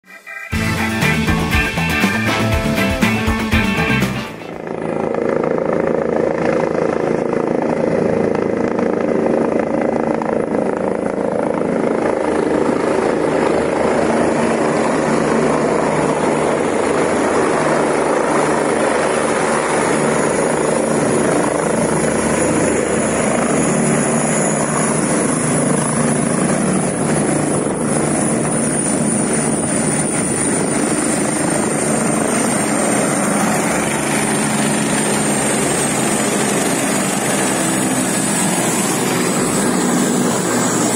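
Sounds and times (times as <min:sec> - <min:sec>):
helicopter rotor and turbine: 0:00.1 - 0:40.9.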